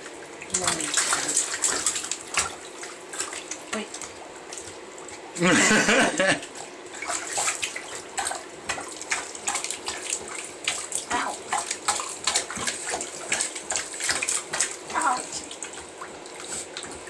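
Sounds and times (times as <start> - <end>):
dog splashing in bathwater: 0.0 - 17.0.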